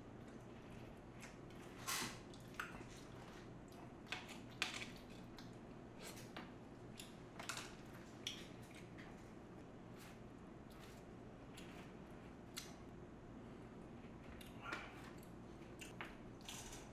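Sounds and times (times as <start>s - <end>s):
quiet chewing: 0.1s - 12.8s, 14.0s - 16.7s.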